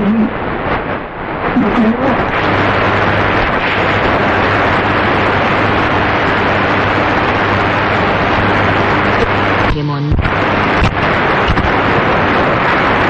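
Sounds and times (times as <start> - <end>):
faint low hum: 0.0 - 13.0
radio static hiss: 0.0 - 13.0.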